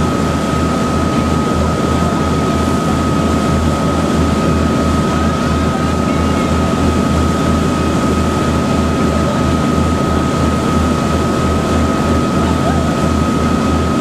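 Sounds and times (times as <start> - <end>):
boat engine throbbing: 0.0 - 14.0.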